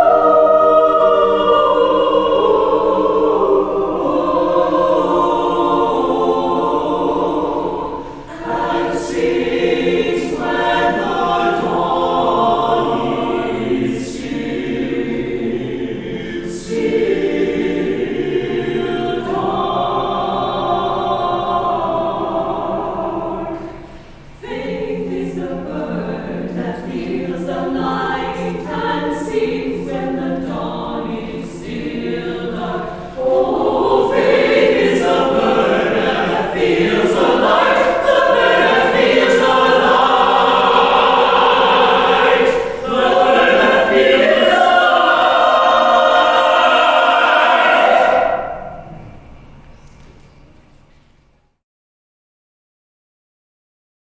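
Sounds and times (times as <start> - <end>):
choir singing: 0.0 - 49.4.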